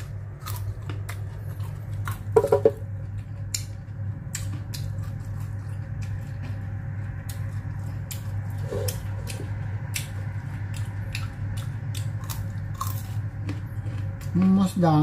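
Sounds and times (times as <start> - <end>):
person chewing food: 0.0 - 14.5
low hum: 0.0 - 15.0.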